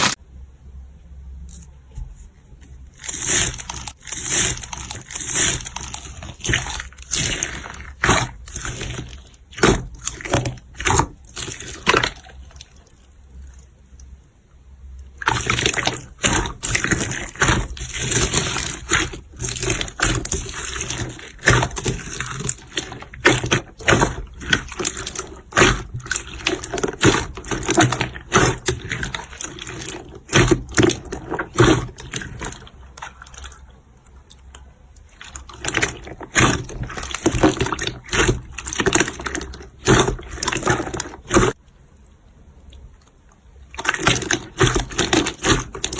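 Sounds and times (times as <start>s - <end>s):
slime squelching: 0.0s - 0.2s, 1.5s - 14.3s, 14.9s - 45.9s.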